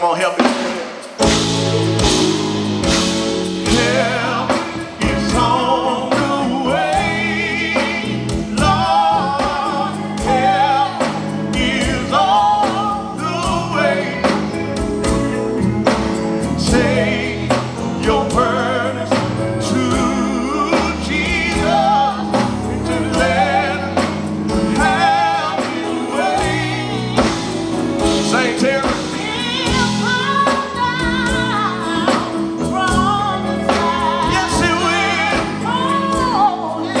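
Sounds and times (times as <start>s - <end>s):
gospel quartet singing: 0.0s - 37.0s
band of guitar bass and keyboard: 1.2s - 37.0s.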